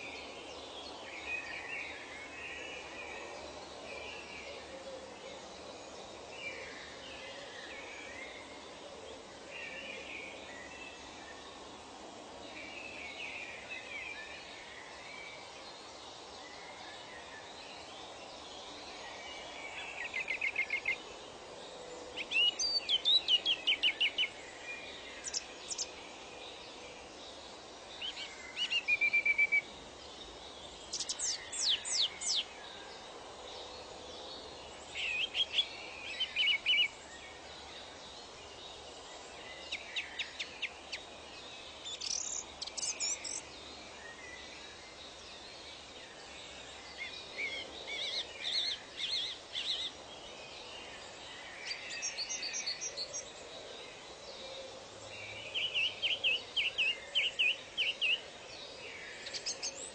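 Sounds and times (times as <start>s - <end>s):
steady background hiss: 0.0s - 59.9s
wild birds singing: 0.0s - 59.9s.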